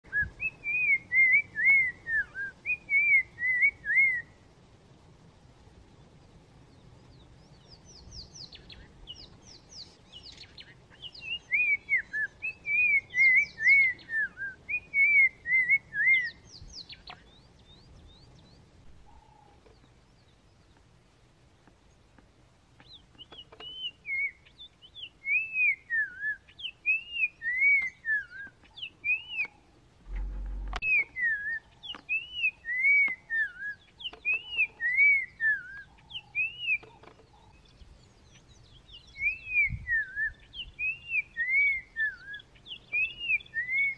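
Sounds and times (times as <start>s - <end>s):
bird singing slurred whistles: 0.0s - 4.4s, 7.4s - 19.6s, 22.8s - 29.6s, 30.8s - 43.9s.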